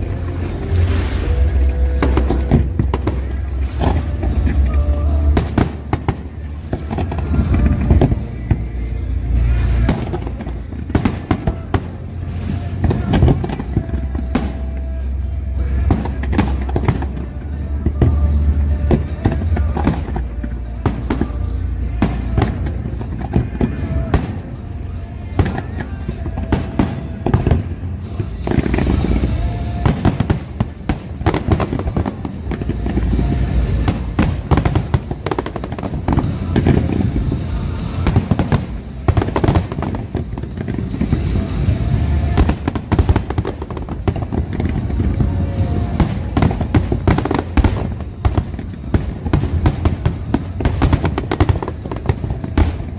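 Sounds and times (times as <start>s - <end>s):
fireworks bangs and crackles: 0.0s - 24.6s, 25.2s - 52.9s
deep fireworks booms: 0.0s - 52.9s
music playing: 0.0s - 52.9s.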